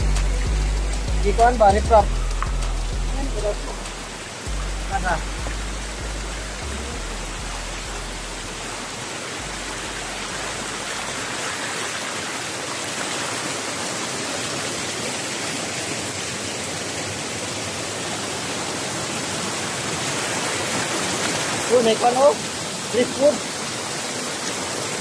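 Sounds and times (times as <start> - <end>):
stream splashing over stones: 0.0 - 25.0.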